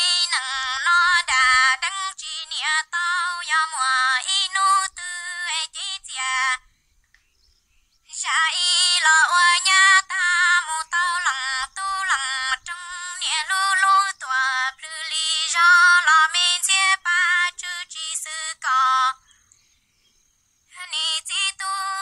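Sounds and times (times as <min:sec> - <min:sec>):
woman singing: 0:00.0 - 0:06.6, 0:08.1 - 0:19.2, 0:20.7 - 0:22.0.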